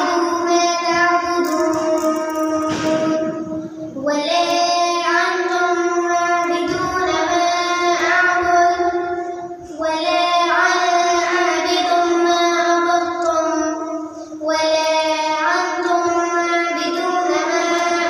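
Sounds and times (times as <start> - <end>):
child singing: 0.0 - 18.0.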